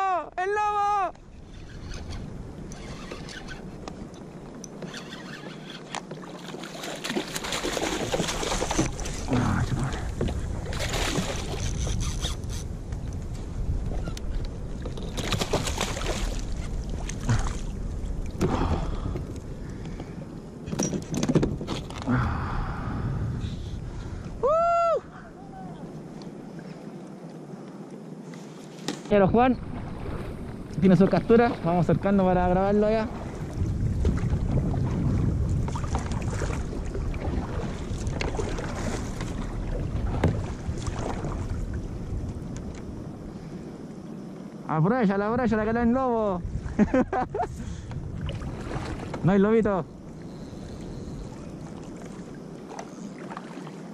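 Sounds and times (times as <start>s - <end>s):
water splashing against kayak: 0.0s - 22.8s, 25.4s - 44.5s, 46.4s - 53.9s
wind rumble on microphone: 0.6s - 53.9s.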